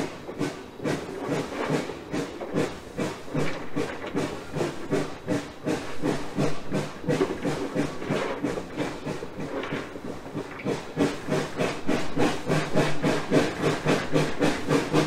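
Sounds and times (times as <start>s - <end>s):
steam locomotive exhaust chuffs: 0.0s - 15.0s.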